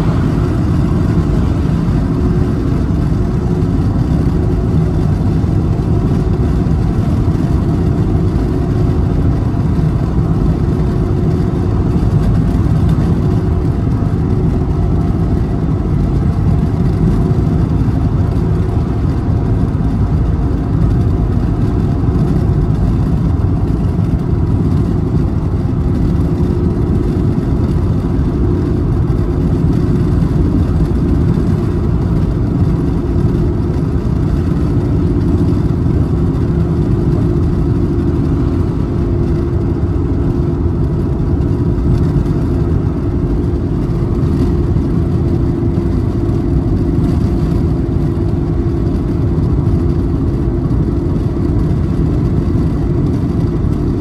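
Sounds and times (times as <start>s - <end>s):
car road noise at highway speed: 0.0s - 54.0s.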